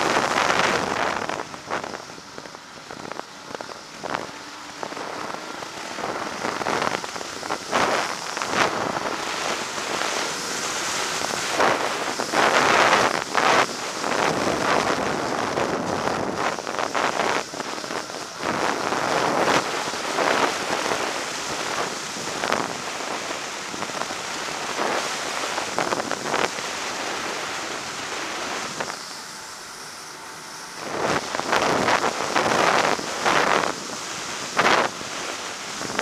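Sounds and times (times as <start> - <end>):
snowmobile running: 0.0 - 36.0
wind rushing over microphone: 0.0 - 36.0.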